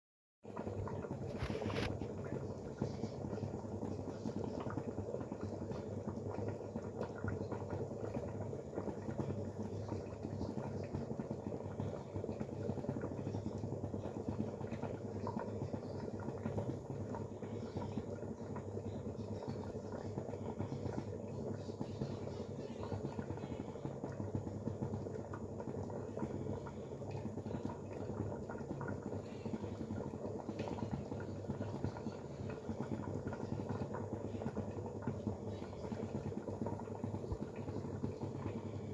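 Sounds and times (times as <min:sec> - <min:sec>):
carrots and milk bubbling in pot: 0:00.4 - 0:38.9.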